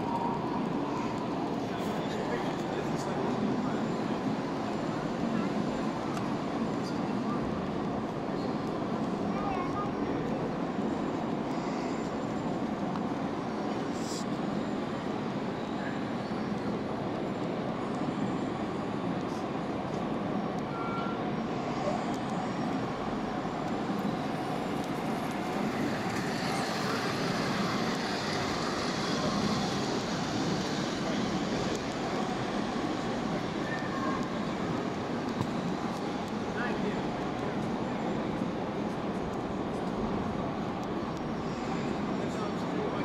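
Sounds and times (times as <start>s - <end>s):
model diesel locomotive running: 0.0s - 43.0s.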